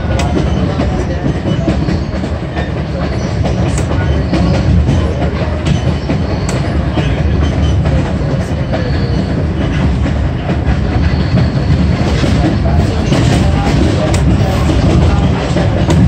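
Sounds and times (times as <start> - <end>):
train car low rumble: 0.0 - 16.0
wheels clicking on rails: 0.0 - 16.0.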